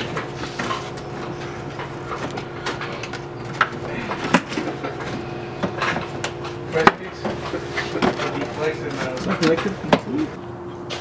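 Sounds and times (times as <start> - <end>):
knocks and scrapes on exhaust pipe: 0.0 - 10.3
steady low hum: 0.0 - 11.0.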